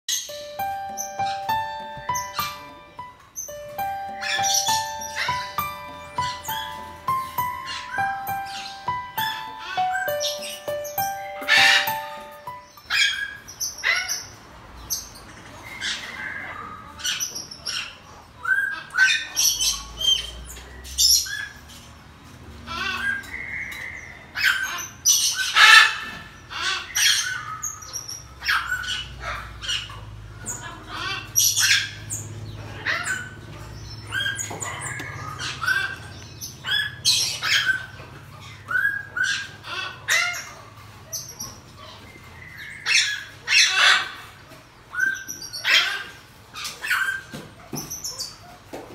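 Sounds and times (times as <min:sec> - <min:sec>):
marmosets chirping: 0:00.1 - 0:21.6, 0:23.0 - 0:44.1.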